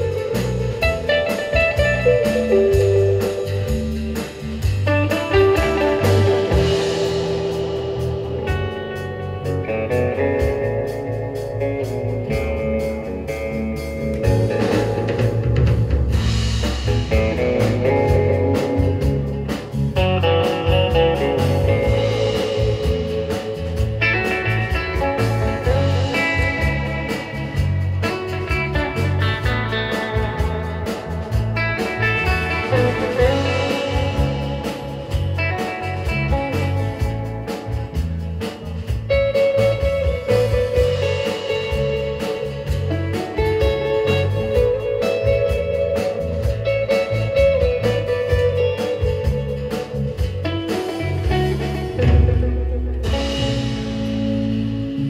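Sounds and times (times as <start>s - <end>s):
drum kit beat: 0.0s - 55.0s
electric bass guitar: 0.0s - 55.0s
electric guitars: 0.0s - 55.0s.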